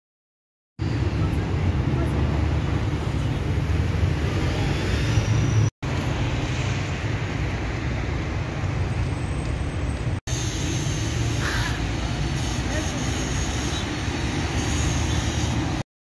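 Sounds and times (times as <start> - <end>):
low traffic rumble: 0.8 - 15.8.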